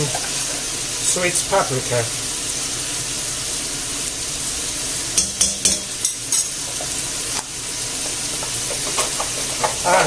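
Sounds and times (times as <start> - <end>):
meat frying in oil: 0.0 - 10.0.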